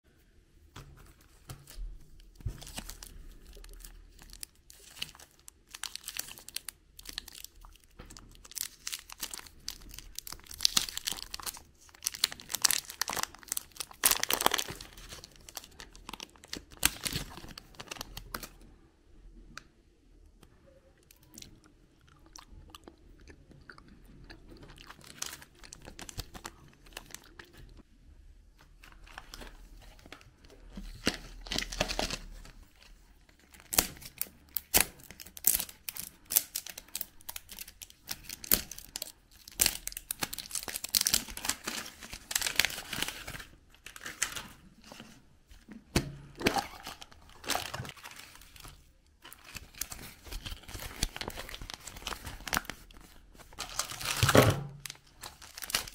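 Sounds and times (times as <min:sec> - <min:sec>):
wrappers crinkling and tearing: 0:02.2 - 0:18.6, 0:24.6 - 0:27.8, 0:28.8 - 0:45.1, 0:46.4 - 0:55.9.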